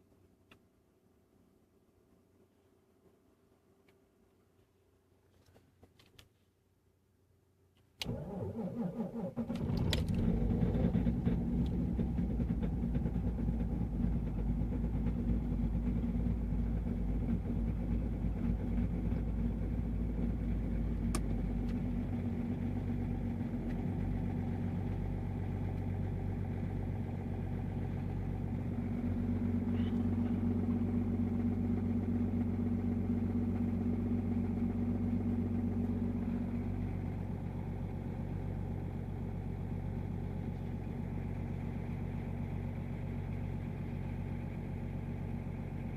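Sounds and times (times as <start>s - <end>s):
diesel engine idling: 8.1s - 45.9s.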